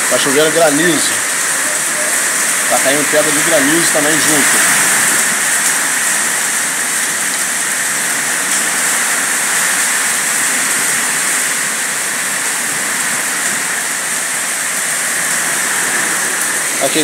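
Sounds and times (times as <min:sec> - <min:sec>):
heavy rain with hail: 0:00.0 - 0:17.0.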